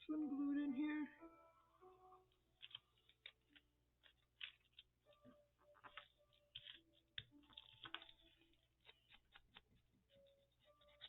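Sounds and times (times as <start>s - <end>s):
paper rustling: 1.8s - 11.0s.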